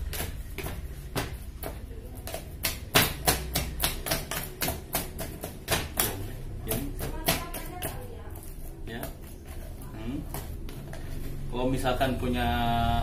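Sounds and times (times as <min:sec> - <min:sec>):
utensil mashing in plastic bowl: 0:00.0 - 0:11.3.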